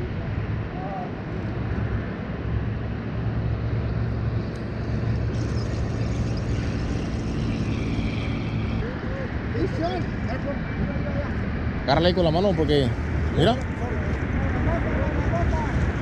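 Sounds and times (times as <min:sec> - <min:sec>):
distant engine rumble: 0:00.0 - 0:16.0
faint high whine: 0:00.0 - 0:16.0.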